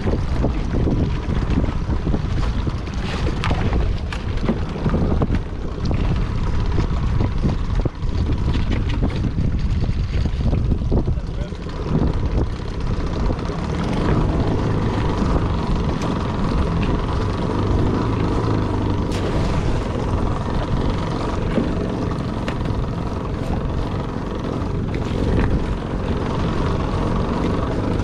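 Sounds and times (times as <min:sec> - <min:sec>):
outboard motor droning: 0:00.0 - 0:28.0.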